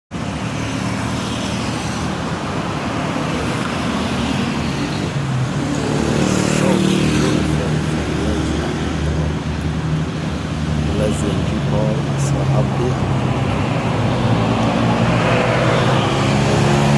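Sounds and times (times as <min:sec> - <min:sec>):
vehicle engines passing: 0:00.1 - 0:16.9.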